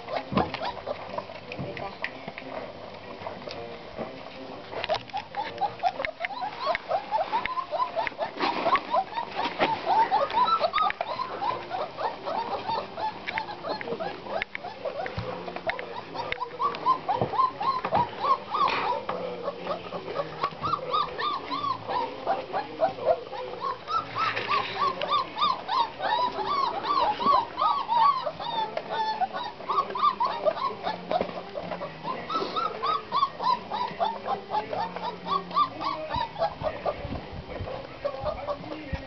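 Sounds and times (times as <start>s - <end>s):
puppies whimpering and squeaking: 0.0s - 39.0s.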